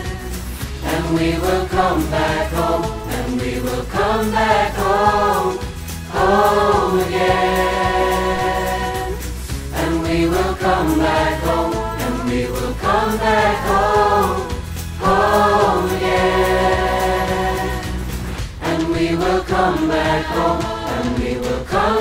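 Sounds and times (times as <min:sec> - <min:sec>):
instrumental backing with beat: 0:00.0 - 0:22.0
children's choir singing: 0:00.8 - 0:22.0.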